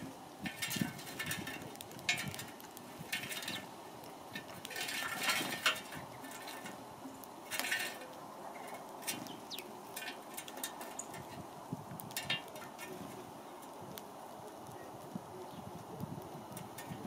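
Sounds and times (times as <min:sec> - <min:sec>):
birds pecking on metal feeder: 0:00.0 - 0:17.0.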